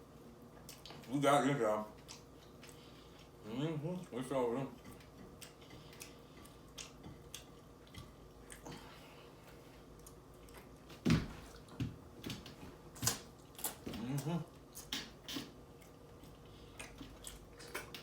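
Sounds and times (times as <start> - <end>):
person chewing food: 0.5 - 1.1, 1.9 - 18.0.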